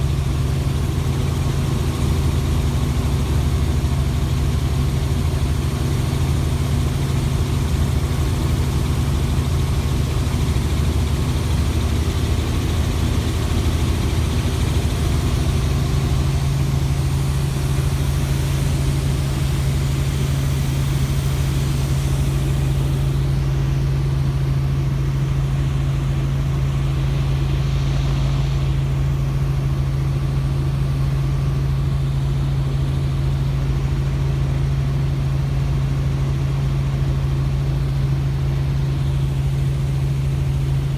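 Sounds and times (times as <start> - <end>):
helicopter running: 0.0 - 36.8.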